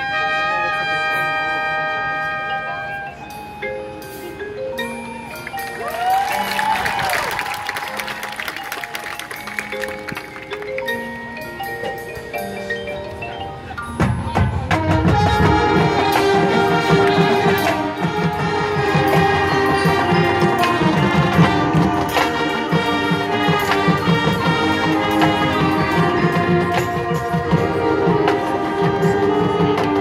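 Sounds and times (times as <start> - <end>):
mallet percussion: 2.4 - 30.0
marching band playing loudly: 5.9 - 30.0.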